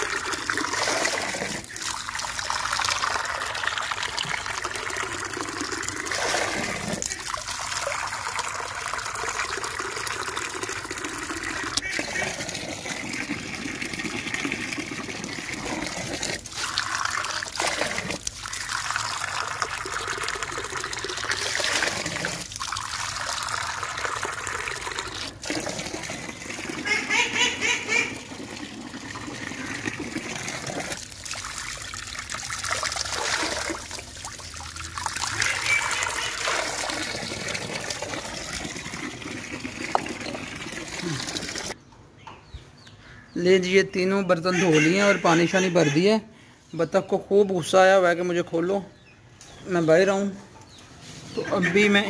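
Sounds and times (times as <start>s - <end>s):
running water splashing into bowls: 0.0s - 41.8s.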